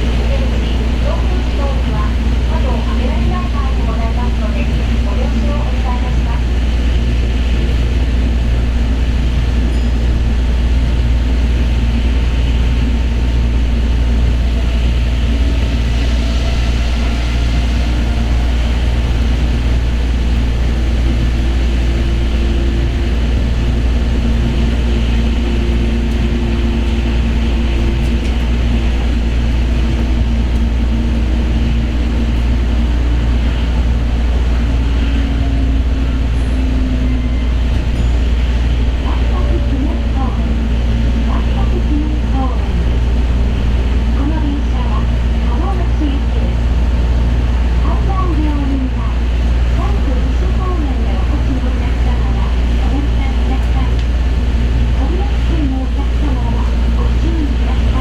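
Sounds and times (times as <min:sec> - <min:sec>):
monorail rumble: 0:00.0 - 0:58.0.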